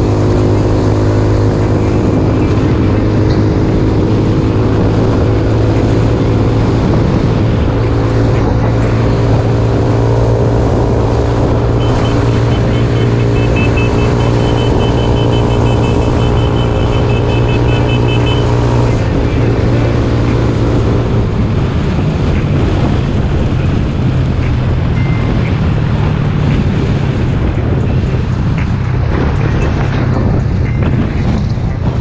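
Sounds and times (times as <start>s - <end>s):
trike engine running: 0.0s - 32.0s
wind on microphone: 0.0s - 32.0s.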